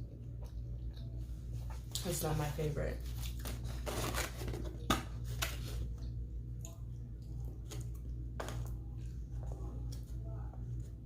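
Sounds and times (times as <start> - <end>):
soft food handling noises: 0.0 - 11.0
steady low hum: 0.0 - 11.0.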